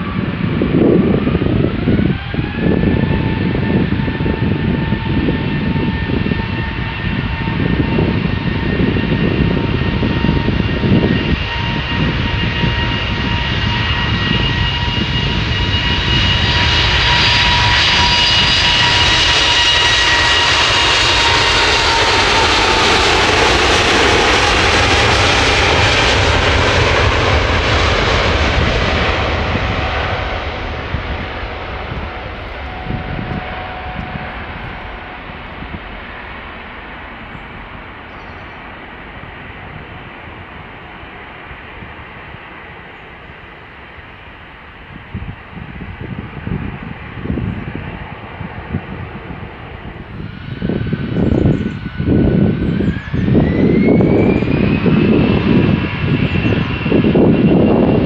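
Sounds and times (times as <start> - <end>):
airliner takeoff roar: 0.0 - 58.0
jet engines whining: 0.0 - 58.0
wind buffeting microphone: 0.0 - 58.0.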